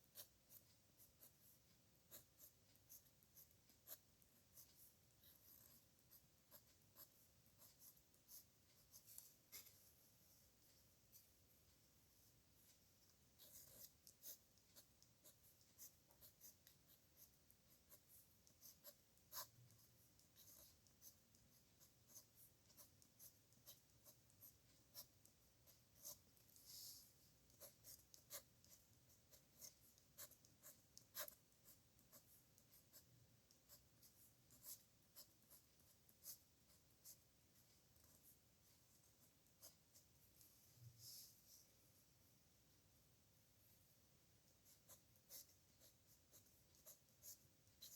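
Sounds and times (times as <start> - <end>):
pen scratching on paper: 0.0 - 10.0, 12.6 - 40.4, 44.6 - 47.9.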